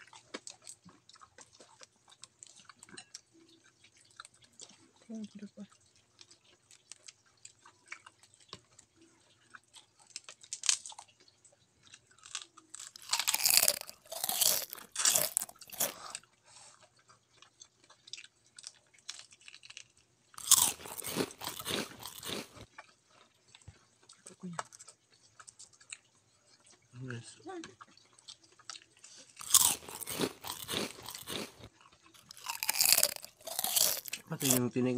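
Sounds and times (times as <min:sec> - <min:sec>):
chewing and crunching shrimp shells: 0:00.0 - 0:34.9.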